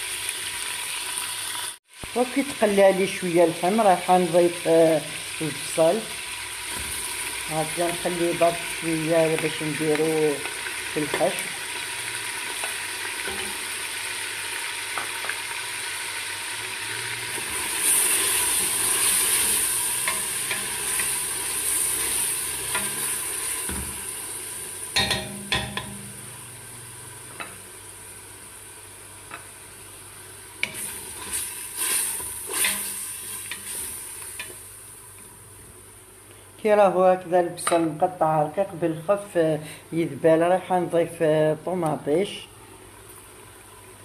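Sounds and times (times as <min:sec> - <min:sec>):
meat and onion sizzling in oil: 0:00.0 - 0:36.6.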